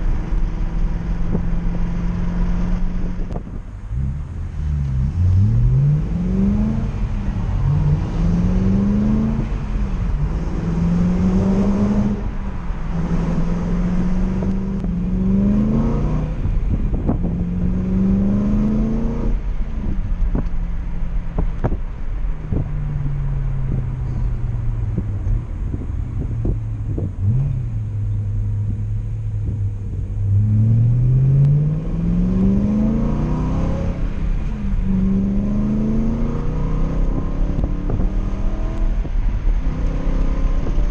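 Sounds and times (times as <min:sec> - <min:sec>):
car engine accelerating through gears: 0:00.0 - 0:40.9
wind buffeting microphone: 0:06.0 - 0:31.1, 0:31.8 - 0:40.9.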